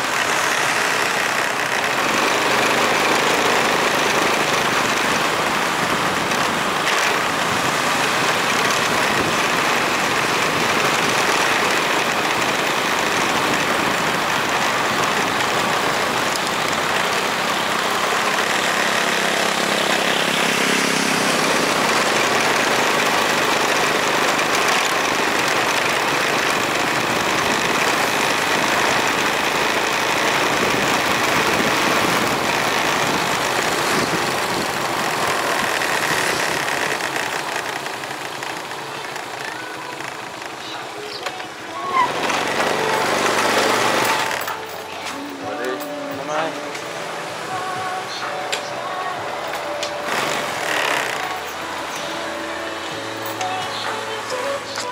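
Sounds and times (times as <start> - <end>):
motorbike engine: 0.0 - 54.9
road and wind noise: 0.0 - 54.9.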